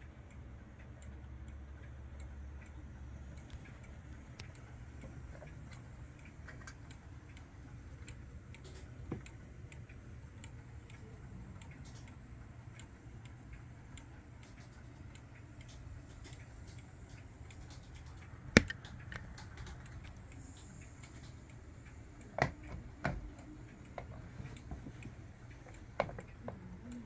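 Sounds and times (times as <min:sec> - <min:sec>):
wall clock ticking: 0:00.0 - 0:27.0.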